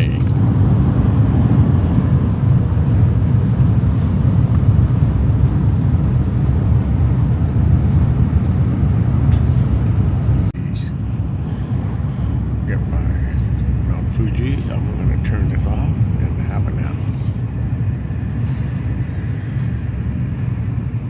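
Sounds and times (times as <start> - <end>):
train rumble inside carriage: 0.0 - 21.0.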